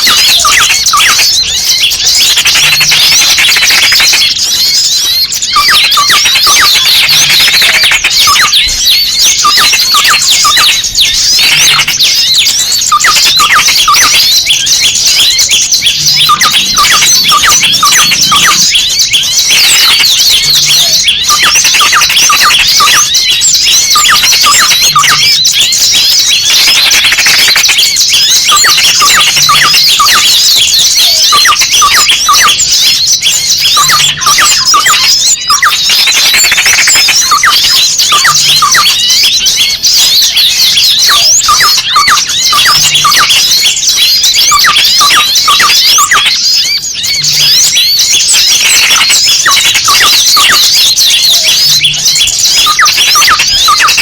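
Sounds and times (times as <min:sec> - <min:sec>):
distressed small bird calling: 0:00.0 - 0:54.0
flock of small birds chattering: 0:00.0 - 0:54.0.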